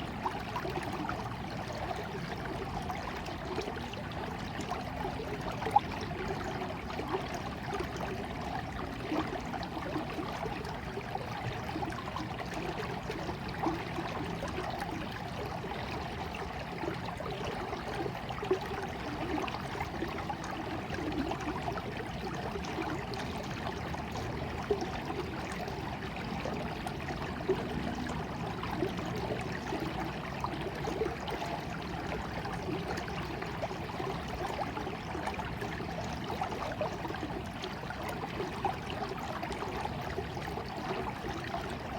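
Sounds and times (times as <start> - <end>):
stream trickling and bubbling: 0.0 - 41.9
water splashes: 0.0 - 41.9.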